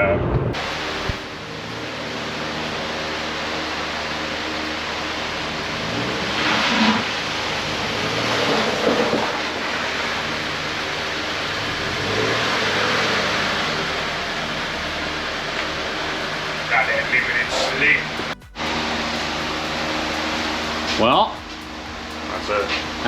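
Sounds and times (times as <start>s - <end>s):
road noise: 0.0s - 23.0s
car engine: 0.2s - 23.0s.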